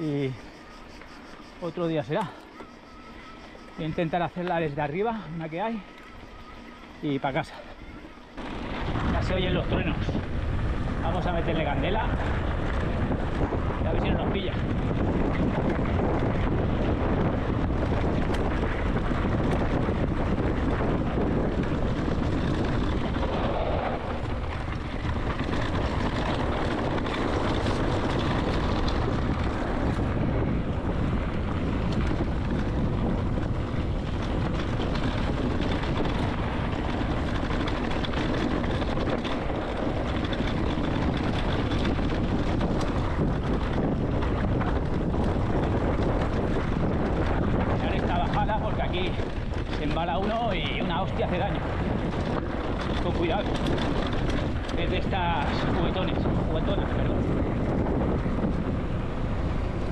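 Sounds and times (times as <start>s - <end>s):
mountain bike rumbling on dirt trail: 0.0s - 59.9s
wind noise on microphone: 0.0s - 59.9s.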